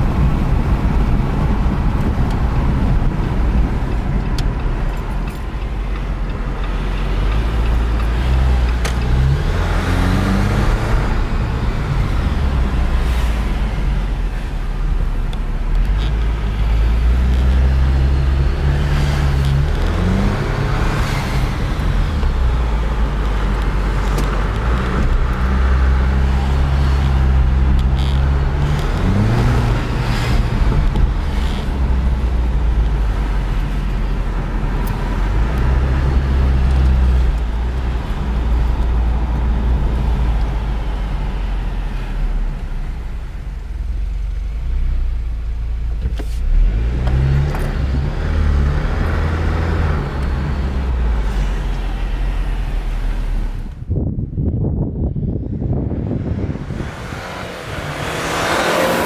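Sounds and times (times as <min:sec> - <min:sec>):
car engine and exhaust drone: 0:00.0 - 0:59.0
road noise: 0:00.0 - 0:59.0.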